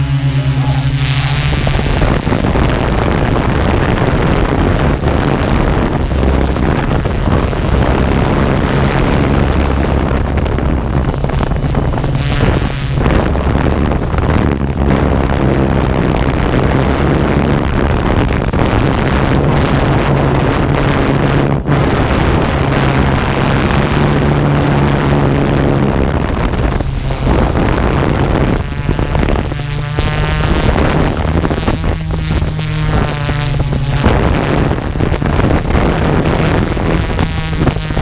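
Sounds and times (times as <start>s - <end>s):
drone propellers humming: 0.0s - 38.0s
wind noise on microphone: 0.0s - 38.0s.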